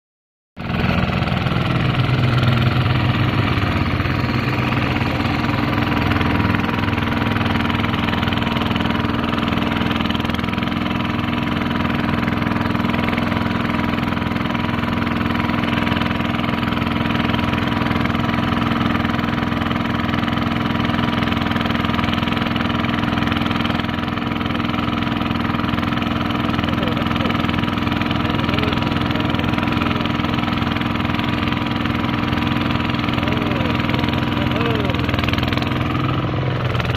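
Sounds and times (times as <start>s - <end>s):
tractor diesel engine running: 0.6s - 36.9s.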